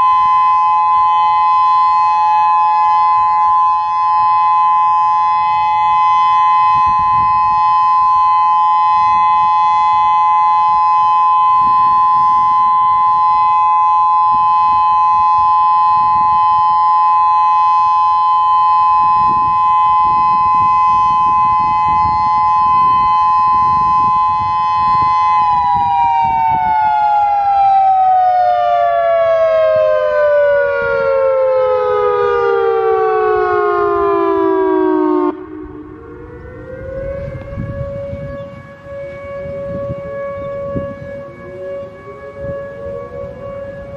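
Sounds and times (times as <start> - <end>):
dual-tone warning siren: 0.0 - 43.9.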